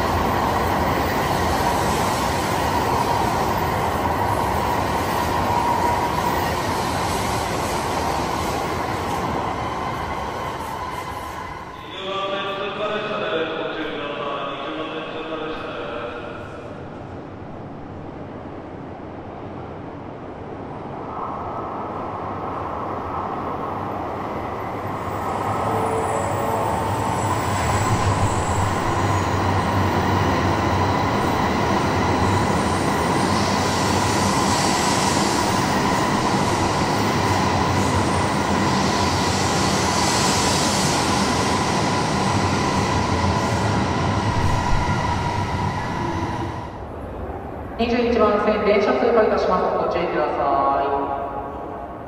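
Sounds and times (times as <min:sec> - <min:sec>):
high train whine: 0:00.0 - 0:52.0
train rumble and rushing air: 0:00.0 - 0:52.0.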